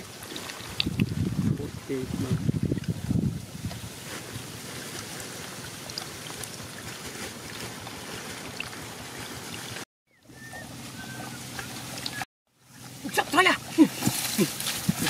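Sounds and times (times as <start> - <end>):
water trickling through grass: 0.0 - 15.0.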